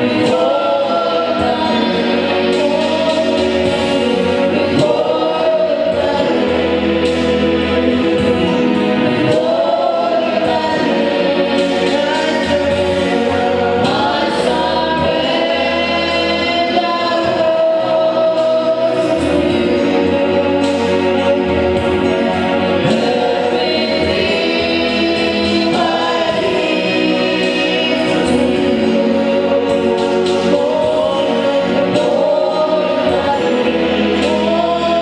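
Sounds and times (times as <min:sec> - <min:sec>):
band accompaniment with bass: 0:00.0 - 0:35.0
choir and congregation singing: 0:00.0 - 0:35.0.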